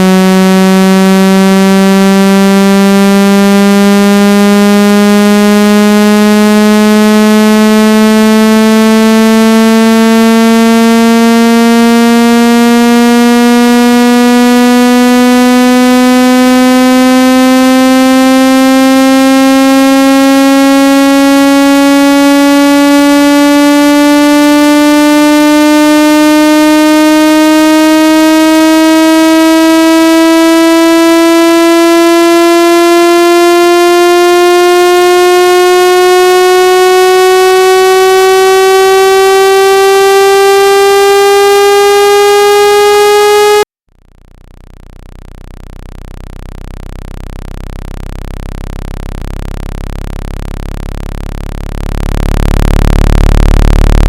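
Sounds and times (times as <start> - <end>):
buzzy synthesized tone sweeping upward: 0.0 - 43.7, 47.0 - 54.0.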